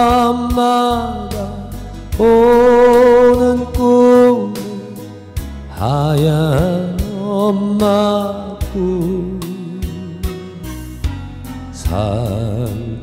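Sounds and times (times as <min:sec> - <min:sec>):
man singing with vibrato: 0:00.0 - 0:13.0
soft instrumental accompaniment: 0:00.0 - 0:13.0.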